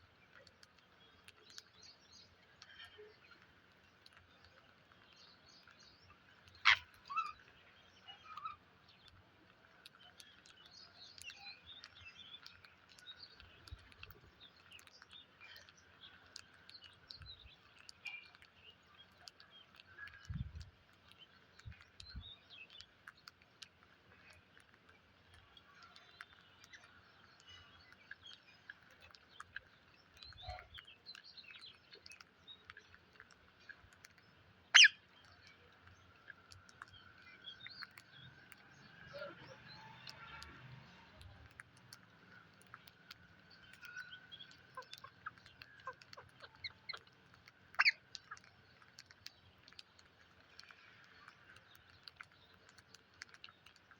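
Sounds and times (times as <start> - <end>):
parrot chirps and chatter: 0.3 - 53.9.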